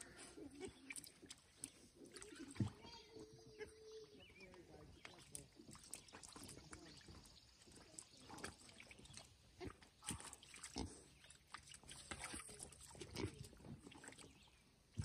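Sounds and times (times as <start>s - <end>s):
wet snuffling and splashing: 0.0s - 15.0s.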